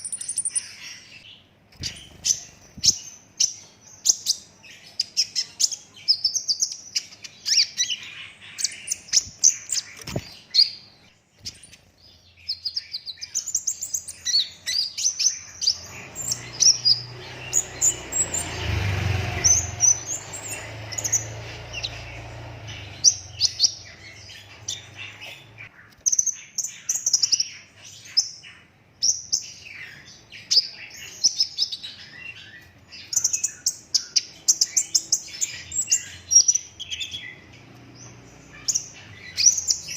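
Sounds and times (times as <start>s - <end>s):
sunbird singing high chattering song: 0.0s - 39.9s.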